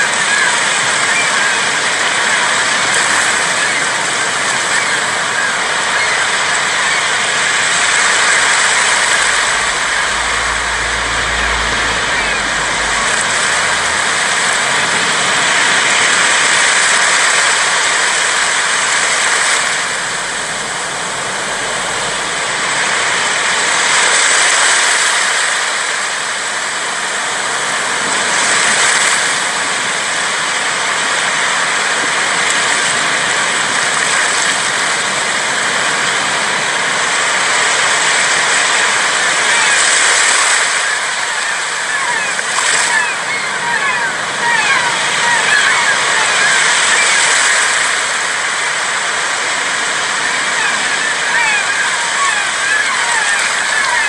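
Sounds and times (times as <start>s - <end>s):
waves washing onto beach: 0.0s - 54.0s.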